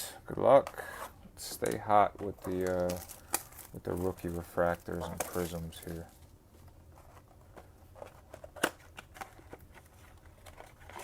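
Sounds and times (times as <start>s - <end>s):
cards and packaging rustling: 0.7s - 11.0s.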